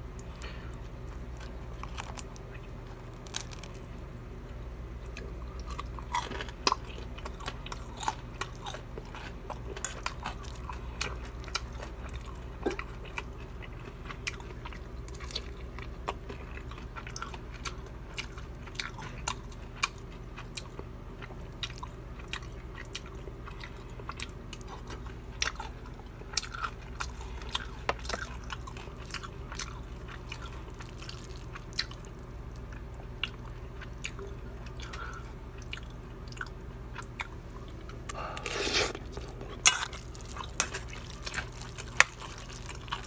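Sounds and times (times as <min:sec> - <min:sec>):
low steady hum: 0:00.0 - 0:43.0
crunchy chewing: 0:00.2 - 0:04.3, 0:05.0 - 0:43.0.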